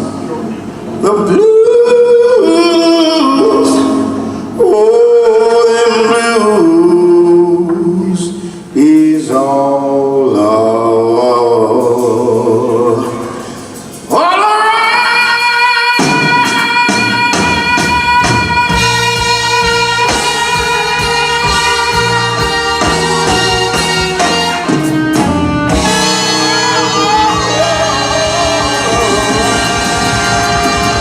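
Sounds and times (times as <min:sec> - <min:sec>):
live blues band: 0:00.0 - 0:31.0
man singing long notes: 0:00.9 - 0:31.0.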